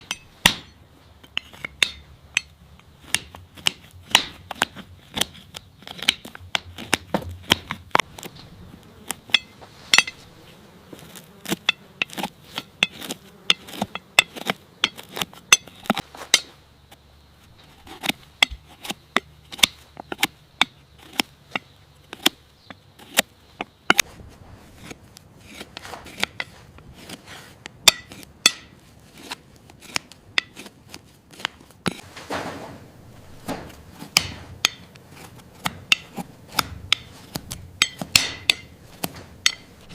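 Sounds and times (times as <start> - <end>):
hoof knife scraping hoof: 0.0 - 39.9.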